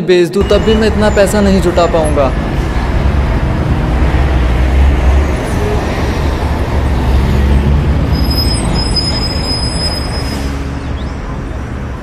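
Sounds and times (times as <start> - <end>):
street traffic rumble: 0.4 - 12.0.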